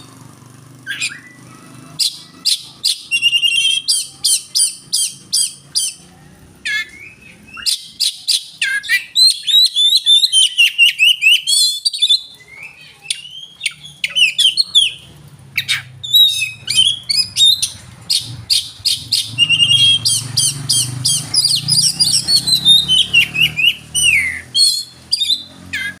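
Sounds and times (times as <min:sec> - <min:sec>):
bird singing whistling song: 0:00.8 - 0:01.4, 0:02.0 - 0:06.0, 0:06.6 - 0:26.0.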